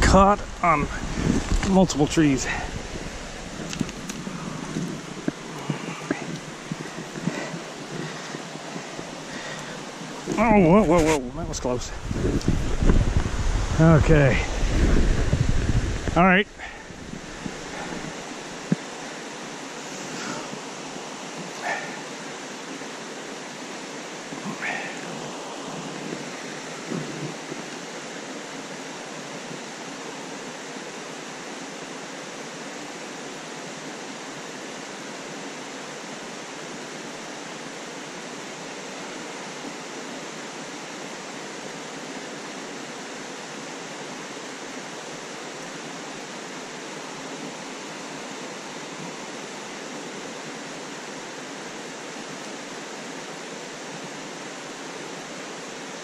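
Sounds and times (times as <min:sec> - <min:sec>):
rushing stream water: 0:00.0 - 0:56.0.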